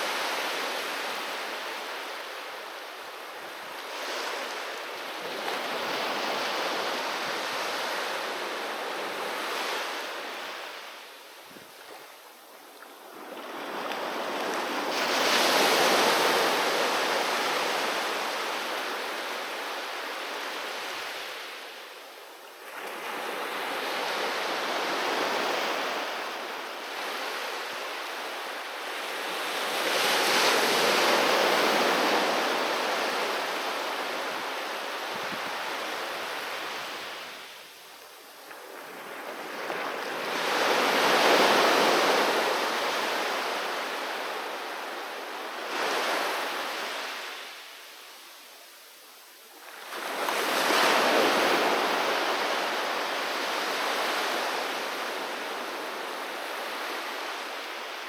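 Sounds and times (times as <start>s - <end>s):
sea waves breaking on a beach: 0.0s - 48.4s, 49.2s - 58.0s.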